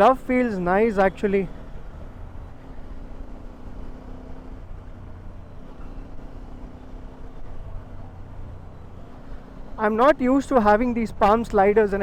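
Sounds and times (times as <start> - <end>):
motorcycle engine humming: 0.0 - 12.0
road and wind noise: 0.0 - 12.0.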